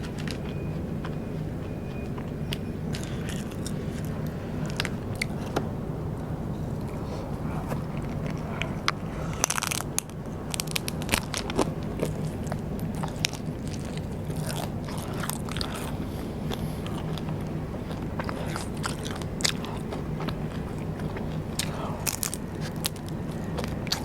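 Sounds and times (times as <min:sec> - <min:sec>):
crunchy snack chewing: 0:00.0 - 0:24.0.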